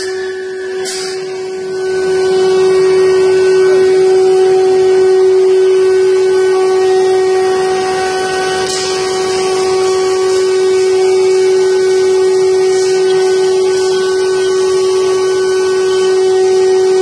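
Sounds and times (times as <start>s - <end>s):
hissing of bit cutting wood: 0.0s - 17.0s
machine spindle whining: 0.0s - 17.0s.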